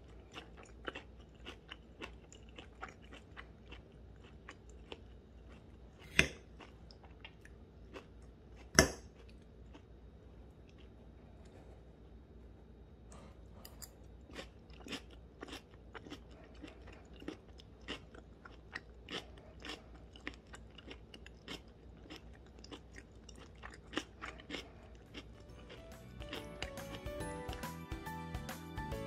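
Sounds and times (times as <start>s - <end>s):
person chewing crunchy food: 0.0s - 11.2s, 13.7s - 27.7s.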